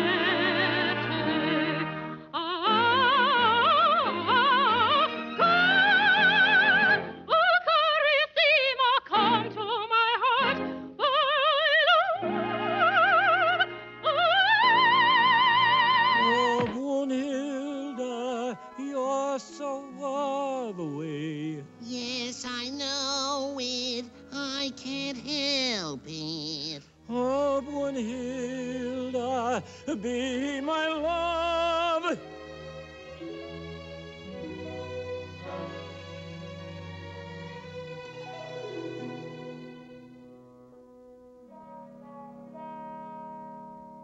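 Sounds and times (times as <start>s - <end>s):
orchestral music: 0.0s - 7.3s, 12.2s - 44.0s
operatic singing with vibrato: 0.0s - 33.2s, 34.2s - 40.0s.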